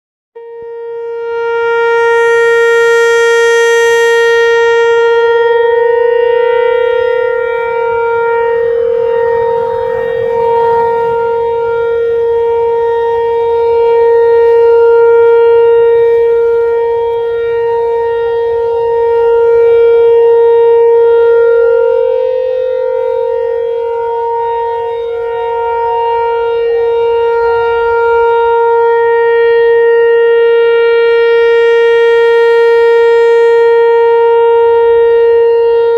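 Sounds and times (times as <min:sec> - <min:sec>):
tornado siren steady tone: 0:00.4 - 0:35.9.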